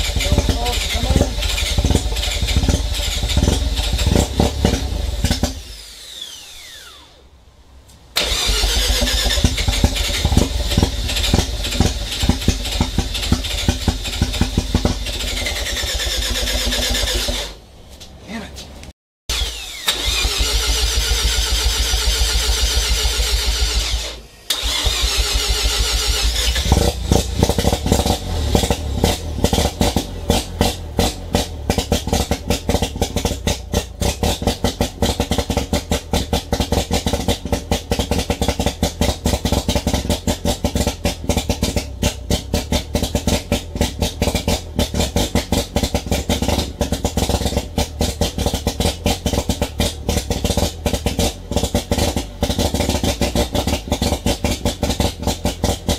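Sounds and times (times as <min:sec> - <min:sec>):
engine running roughly: 0:00.0 - 0:05.9, 0:08.2 - 0:17.6, 0:19.3 - 0:55.9
engine cranking on starter: 0:00.0 - 0:07.2, 0:08.1 - 0:17.6, 0:19.3 - 0:55.9.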